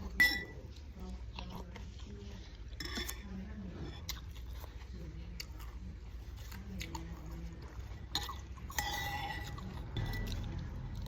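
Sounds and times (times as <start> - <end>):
chewing noodles: 0.0 - 11.0.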